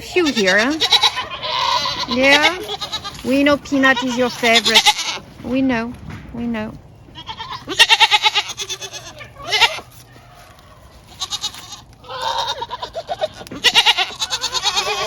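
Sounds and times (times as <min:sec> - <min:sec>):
goats bleating: 0:00.0 - 0:05.2, 0:07.2 - 0:10.1, 0:11.0 - 0:15.0.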